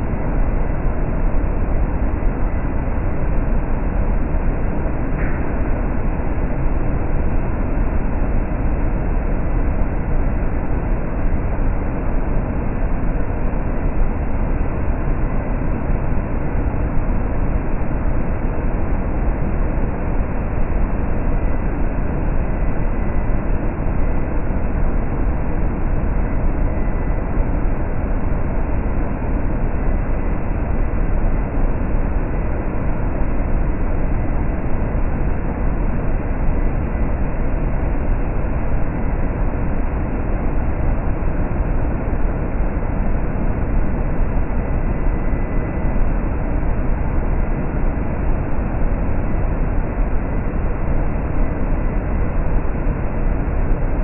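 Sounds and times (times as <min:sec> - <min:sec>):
faint high whine: 0:00.0 - 0:54.0.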